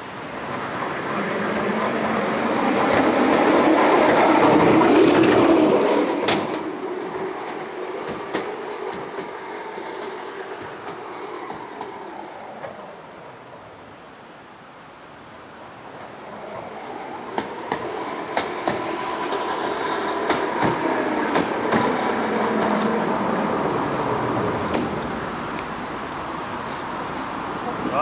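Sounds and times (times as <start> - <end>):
sled rolling on steel rails: 0.0 - 28.0.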